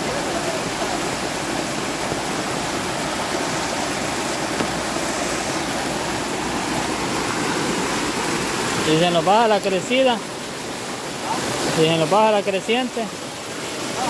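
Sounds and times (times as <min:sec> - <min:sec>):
storm runoff water rushing: 0:00.0 - 0:14.0.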